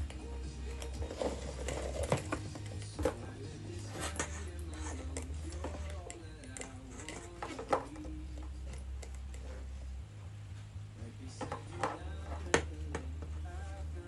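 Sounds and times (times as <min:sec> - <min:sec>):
soft slow background music: 0:00.0 - 0:14.0.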